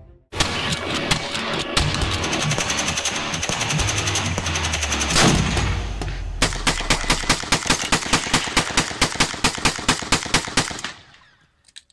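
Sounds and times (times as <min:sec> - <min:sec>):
heavy rifle shot with echo: 0:00.4 - 0:11.1
rapid rifle fire: 0:00.4 - 0:11.2.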